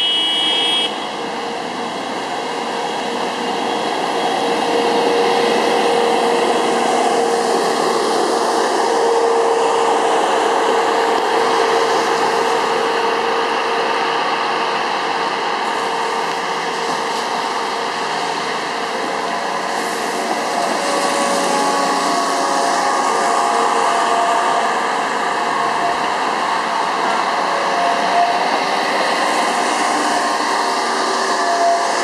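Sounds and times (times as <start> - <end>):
wheels on rail: 0.0 - 32.0.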